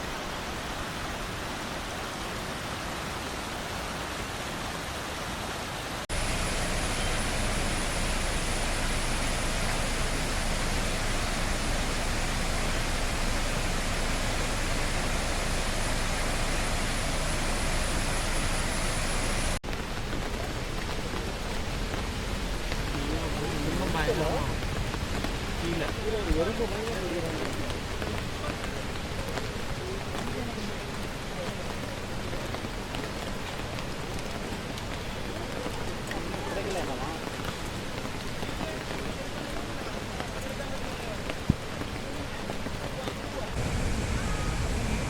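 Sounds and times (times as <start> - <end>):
waterfall rushing water: 0.0 - 45.0.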